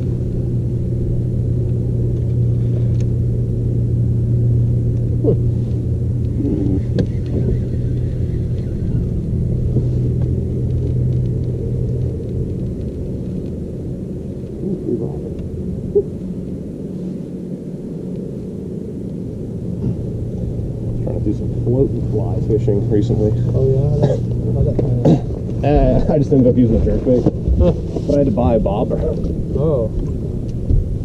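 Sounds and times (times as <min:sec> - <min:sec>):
electric trolling motor humming: 0:00.0 - 0:31.0.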